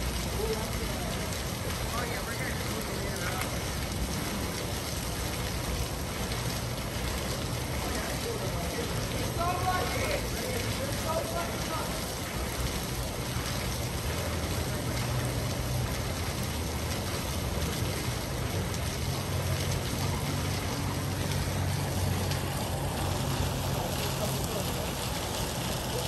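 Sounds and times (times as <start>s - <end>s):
fountain water splashing: 0.0s - 26.0s.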